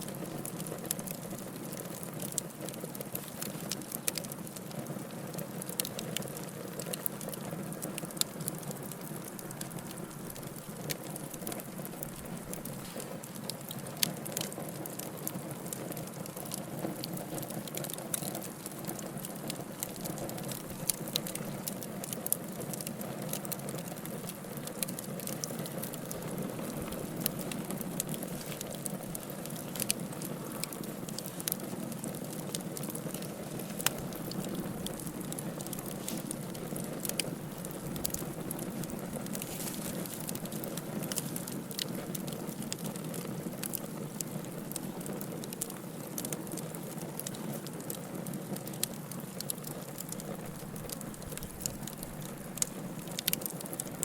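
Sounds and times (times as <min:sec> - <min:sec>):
fire snaps and pops: 0:00.0 - 0:54.0
wood fire crackling: 0:00.0 - 0:54.0.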